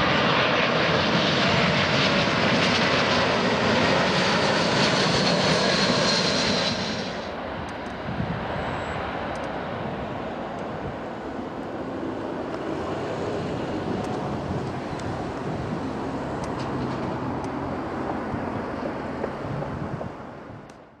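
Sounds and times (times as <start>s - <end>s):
jet engine rush: 0.0s - 20.7s.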